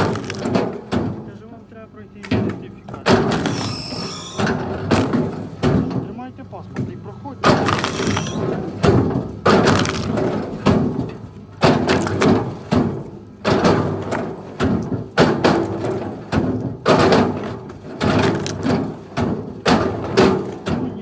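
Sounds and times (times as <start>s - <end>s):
heavy thuds: 0.0s - 21.0s.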